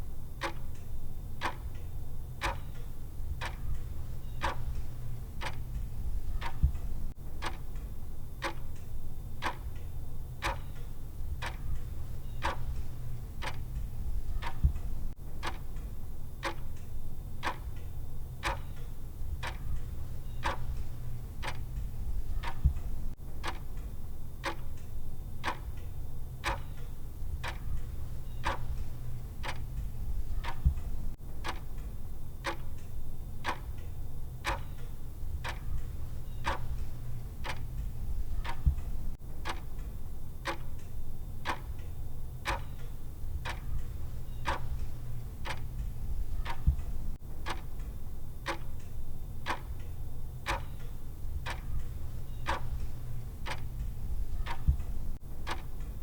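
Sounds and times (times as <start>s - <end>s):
clock ticking: 0.0s - 56.0s
steady low hum: 0.0s - 56.0s.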